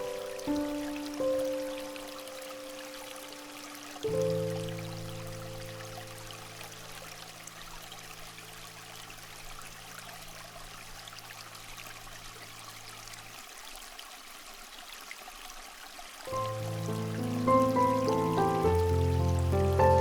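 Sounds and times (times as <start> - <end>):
trickling water: 0.0 - 20.0.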